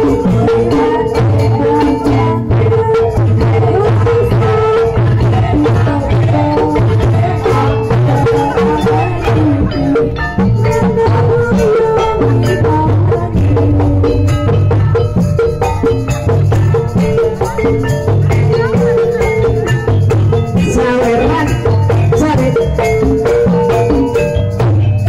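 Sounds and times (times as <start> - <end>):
tuned percussion and drums: 0.0 - 25.0.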